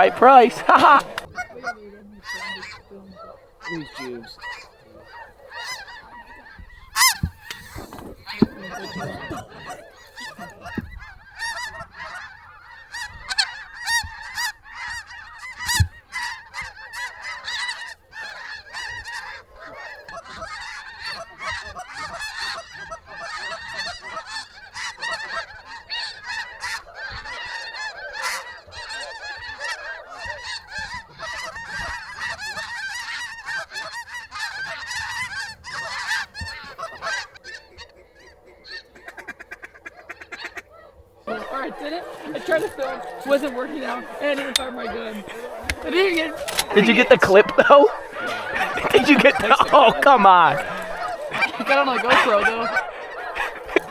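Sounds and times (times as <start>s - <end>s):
geese honking: 0.0s - 53.9s.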